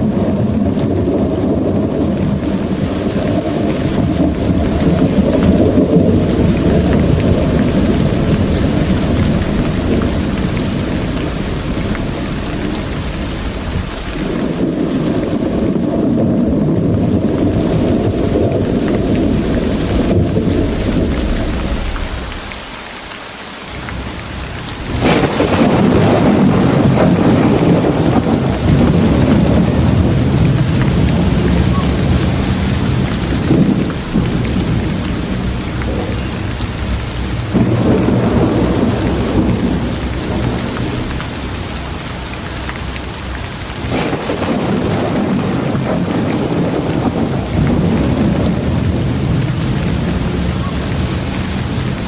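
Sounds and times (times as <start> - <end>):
rolling thunder: 0.0 - 22.8, 23.7 - 52.0
steady rain: 0.0 - 52.0.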